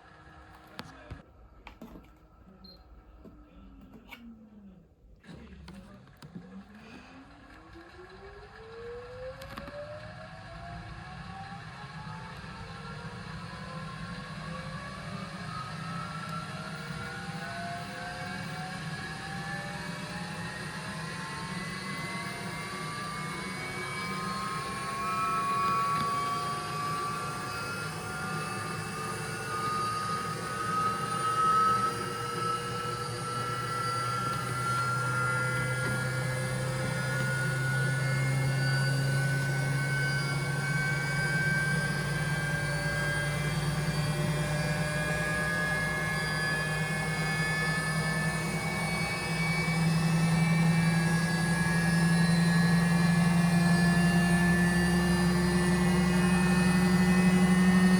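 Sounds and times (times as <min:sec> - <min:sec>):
washing machine motor whining: 0:00.0 - 0:57.9.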